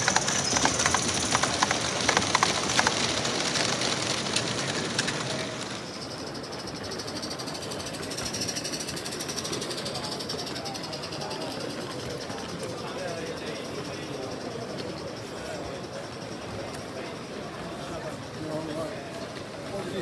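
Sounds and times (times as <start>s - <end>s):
model train wheels clicking: 0.0s - 20.0s.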